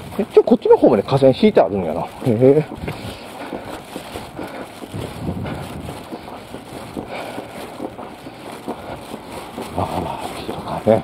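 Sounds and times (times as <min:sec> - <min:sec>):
steady rustle: 0:00.0 - 0:11.0.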